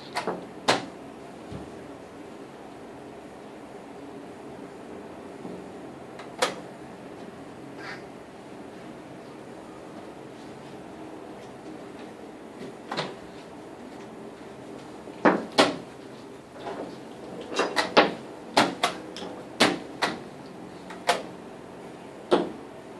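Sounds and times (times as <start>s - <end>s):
faint room hum: 0.0s - 22.9s.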